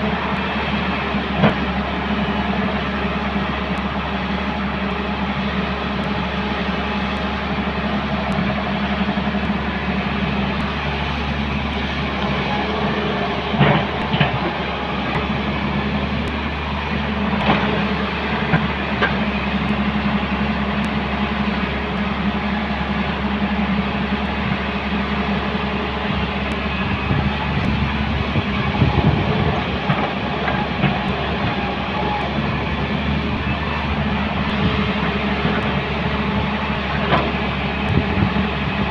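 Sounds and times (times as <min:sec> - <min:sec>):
diesel excavator engine running: 0:00.0 - 0:38.9.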